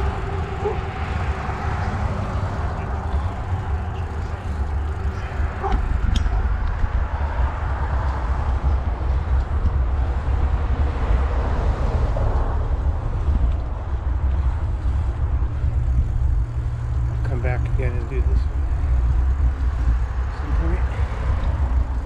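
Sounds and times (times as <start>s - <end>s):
bicycle tyre noise on pavement: 0.0s - 22.0s
wind buffeting microphone: 0.0s - 22.0s.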